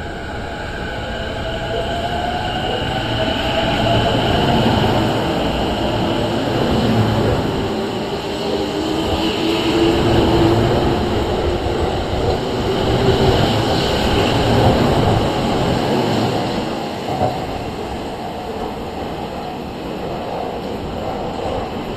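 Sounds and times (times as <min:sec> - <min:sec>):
electric train pulling out: 0:00.0 - 0:21.9.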